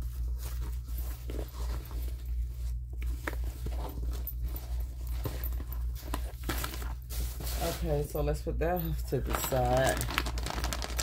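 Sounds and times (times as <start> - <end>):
tote bag rustling and crinkling: 0.0 - 8.2, 8.9 - 11.0
steady low hum: 0.0 - 10.2.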